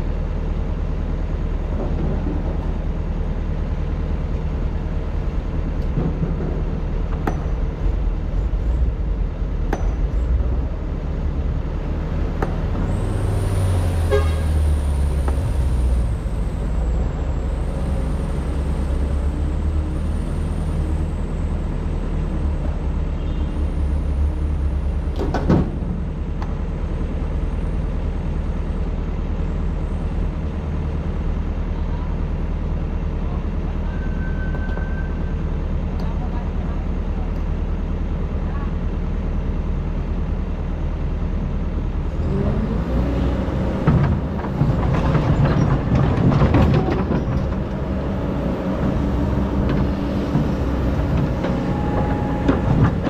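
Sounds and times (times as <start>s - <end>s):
excavator diesel engine running: 0.0s - 33.9s, 35.4s - 53.0s.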